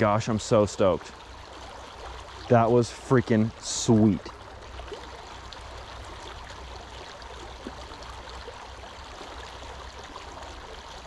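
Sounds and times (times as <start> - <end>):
creek babbling over rocks: 0.0 - 11.0.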